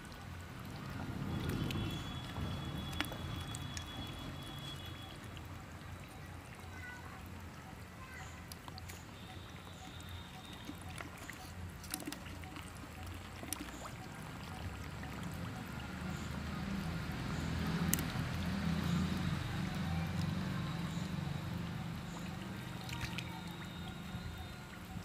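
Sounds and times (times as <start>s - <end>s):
water sloshing and trickling: 0.0s - 25.0s.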